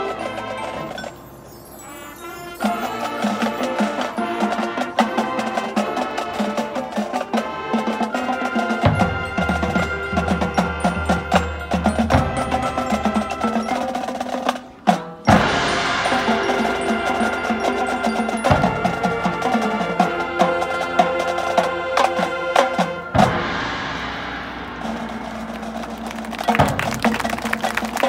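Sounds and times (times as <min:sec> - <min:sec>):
marimbas and vibraphones playing: 0:00.0 - 0:07.7, 0:08.3 - 0:28.0
marching band playing loudly: 0:00.0 - 0:28.0.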